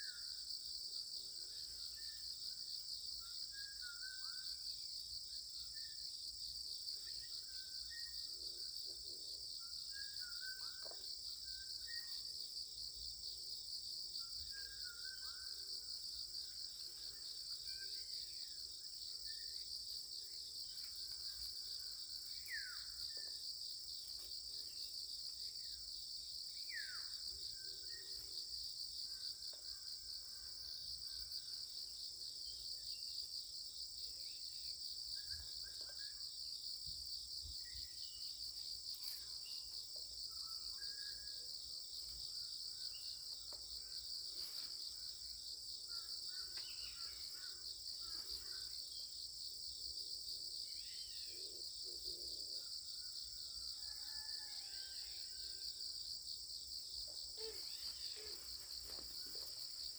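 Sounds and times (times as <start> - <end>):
insects trilling: 5.8 - 59.9.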